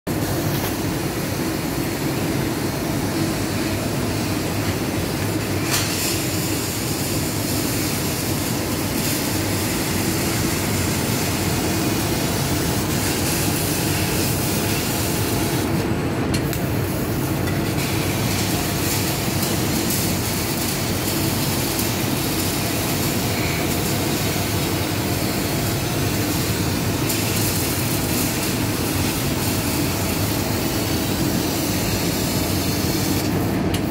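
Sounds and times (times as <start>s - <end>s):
laser cutter hiss: 0.1s - 33.9s.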